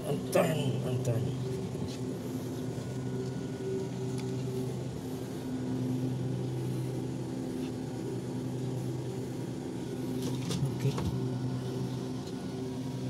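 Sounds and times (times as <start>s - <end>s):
air-handling equipment hum: 0.0s - 13.0s.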